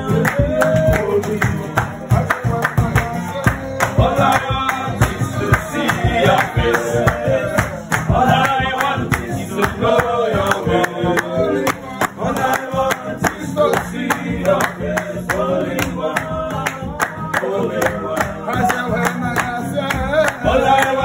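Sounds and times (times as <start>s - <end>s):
acoustic guitar: 0.0s - 21.0s
man singing lead: 0.0s - 21.0s
steady percussive beat: 0.0s - 21.0s
voices singing along: 0.0s - 21.0s.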